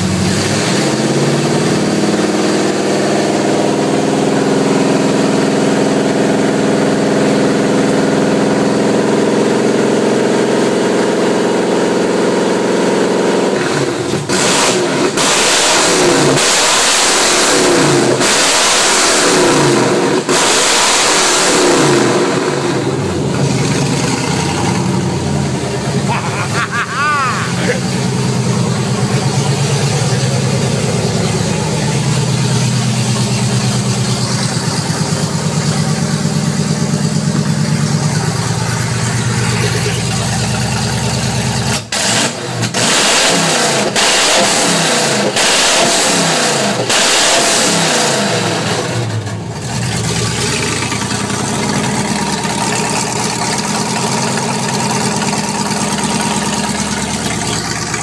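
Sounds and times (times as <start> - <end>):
loud raw engine idling and revving: 0.0 - 58.0.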